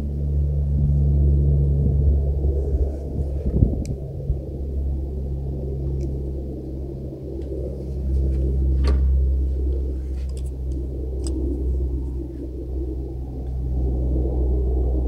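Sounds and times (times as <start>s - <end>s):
airplane flying overhead: 0.0s - 15.0s.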